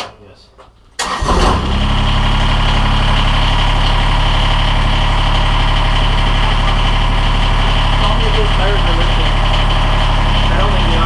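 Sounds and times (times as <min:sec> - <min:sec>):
tractor diesel engine idling: 0:01.0 - 0:11.0.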